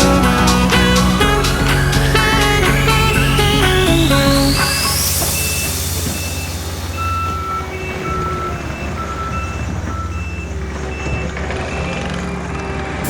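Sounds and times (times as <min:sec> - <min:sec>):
two-tone backup alarm beeping: 0:00.0 - 0:12.1
engine running: 0:00.0 - 0:13.0.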